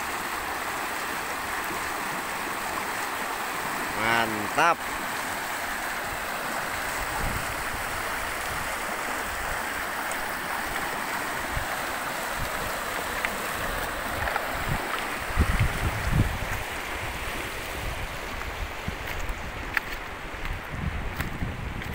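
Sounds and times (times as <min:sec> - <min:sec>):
river rapids rushing over rocks: 0:00.0 - 0:20.5.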